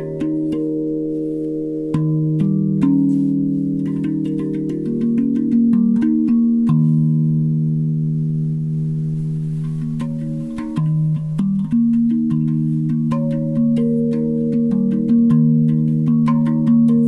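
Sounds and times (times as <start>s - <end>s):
steel tongue drum notes: 0.0s - 17.0s.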